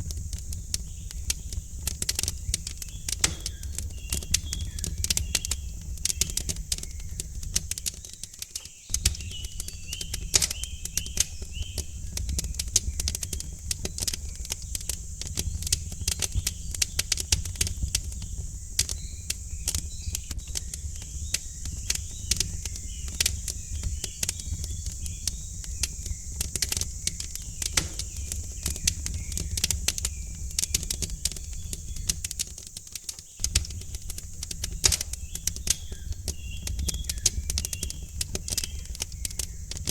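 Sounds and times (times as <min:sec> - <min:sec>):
small birds chirping: 0:00.0 - 0:39.9
wood fire crackling: 0:00.0 - 0:39.9.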